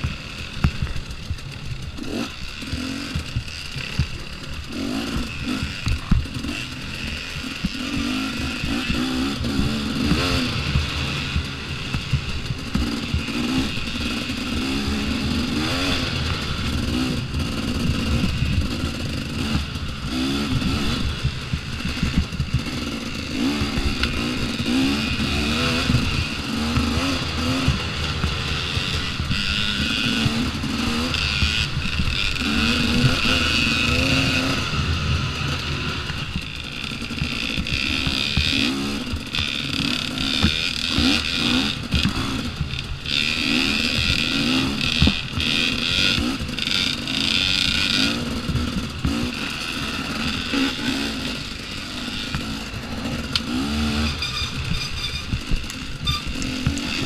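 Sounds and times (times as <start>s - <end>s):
bike rattling over bumps: 0.0s - 57.0s
dirt bike engine revving: 0.0s - 57.0s.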